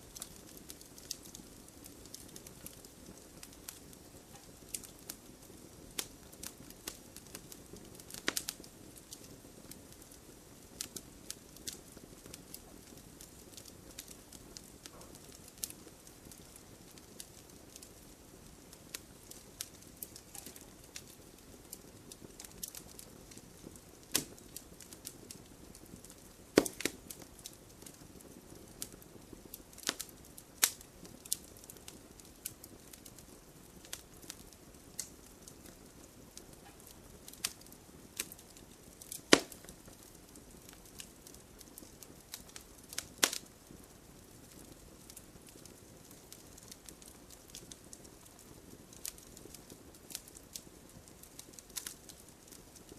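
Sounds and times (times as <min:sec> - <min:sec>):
sharp fire snaps: 0:00.0 - 0:52.9
wood fire crackling: 0:00.0 - 0:52.9.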